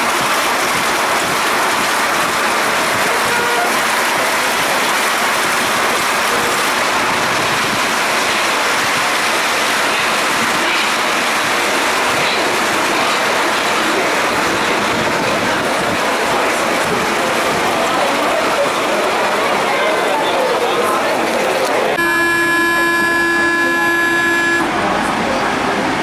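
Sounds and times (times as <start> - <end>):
train rolling through tunnel: 0.0 - 26.0.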